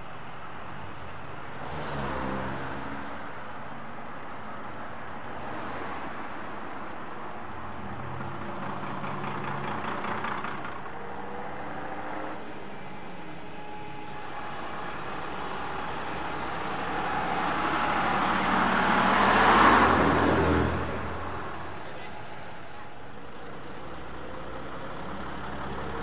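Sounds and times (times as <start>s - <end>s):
bus engine passing: 0.0s - 26.0s.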